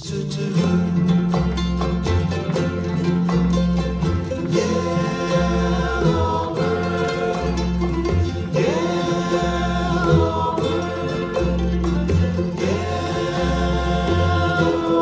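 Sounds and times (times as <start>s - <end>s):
group of voices singing: 0.0s - 1.4s, 4.3s - 15.0s
ukulele orchestra playing: 0.0s - 15.0s
walking bass line: 0.0s - 15.0s.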